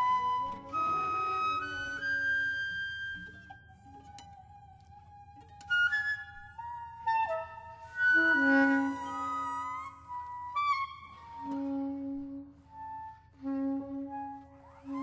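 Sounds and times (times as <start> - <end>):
flute held note: 0.0 - 15.0.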